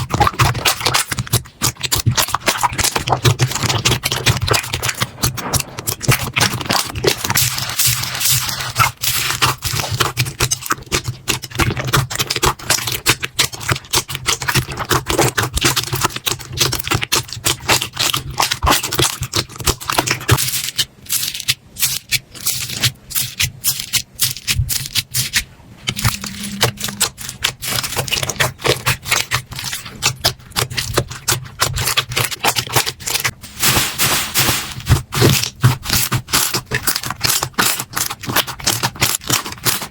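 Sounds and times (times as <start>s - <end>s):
slime crackling and popping: 0.0s - 39.9s
slime scraping: 0.0s - 39.9s.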